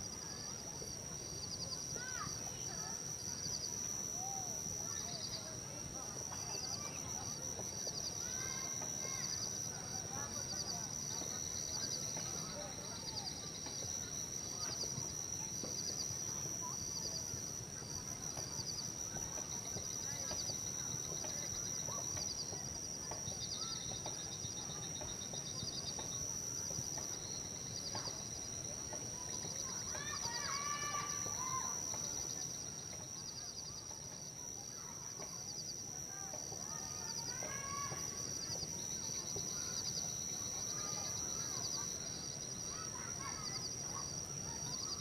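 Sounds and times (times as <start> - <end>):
high insect drone: 0.0 - 45.0
short repeated insect trills: 0.0 - 45.0.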